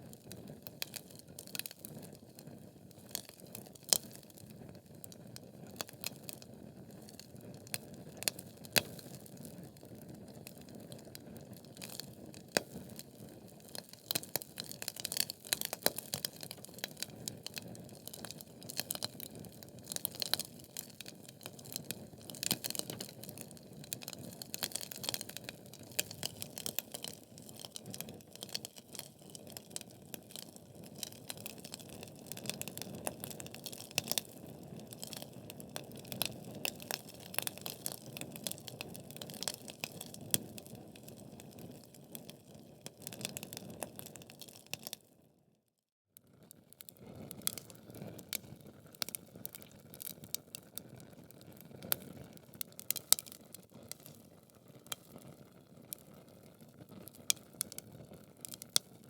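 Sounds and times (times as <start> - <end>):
fire crackling and popping: 0.0 - 45.1, 46.6 - 59.0.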